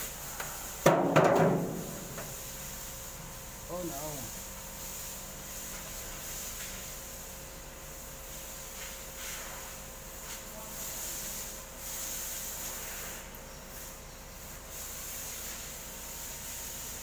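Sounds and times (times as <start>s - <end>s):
steady hiss: 0.0s - 17.0s
cloth rag wiping engine parts: 1.6s - 17.0s.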